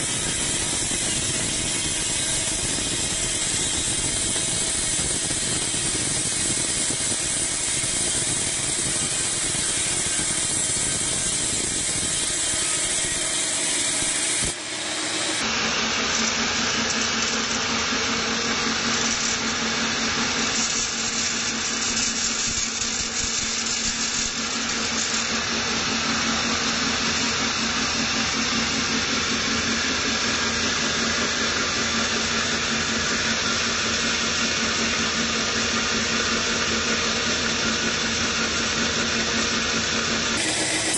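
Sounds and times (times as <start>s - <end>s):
band saw cutting wood: 0.0s - 40.9s
motor running: 0.0s - 40.9s.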